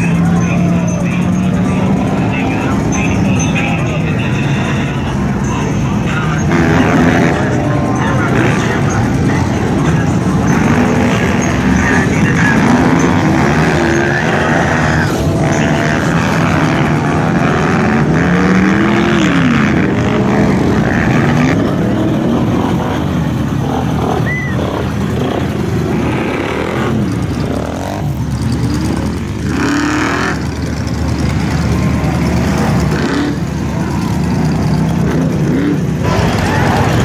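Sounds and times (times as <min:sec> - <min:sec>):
atv engines revving: 0:00.0 - 0:37.0
pickup truck engine running: 0:00.0 - 0:37.0.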